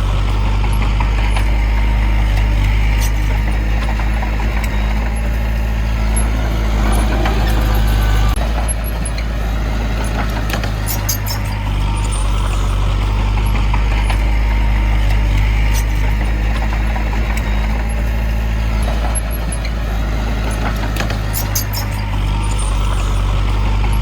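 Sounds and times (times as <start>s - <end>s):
diesel machinery engine humming: 0.0s - 24.0s.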